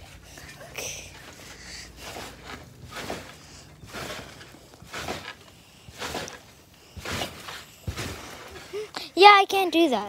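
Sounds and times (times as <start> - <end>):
trampoline landings: 1.2 - 9.9.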